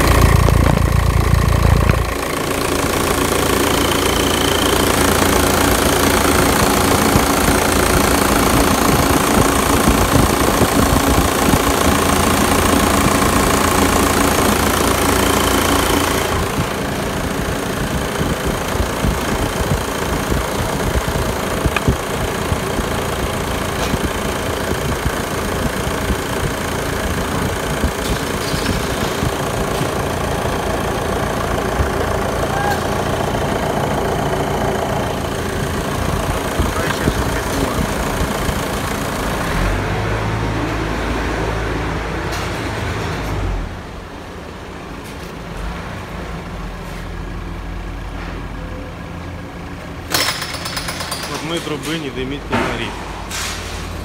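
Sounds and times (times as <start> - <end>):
diesel engine idling: 0.0 - 50.3, 51.3 - 54.0.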